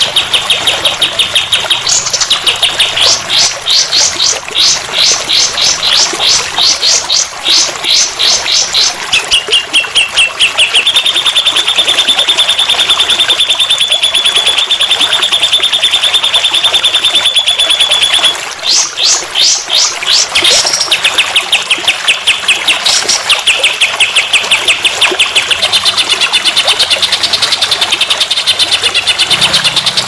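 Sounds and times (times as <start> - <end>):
songbird chirps: 0.0 - 30.0.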